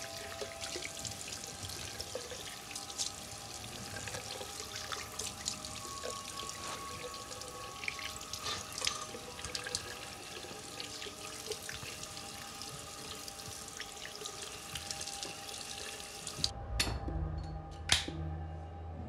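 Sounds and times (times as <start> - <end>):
low held music notes: 0.0 - 19.0.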